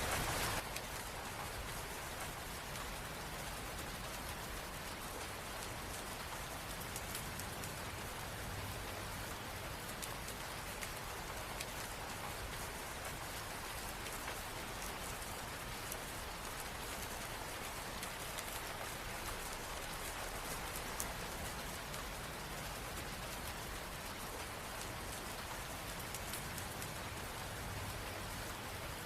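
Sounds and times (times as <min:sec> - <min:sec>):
rain on a hard surface: 0:00.0 - 0:29.0.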